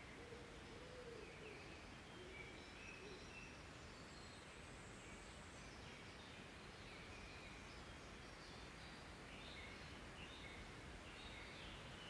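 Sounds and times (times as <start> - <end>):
low outdoor ambience: 0.0 - 12.0.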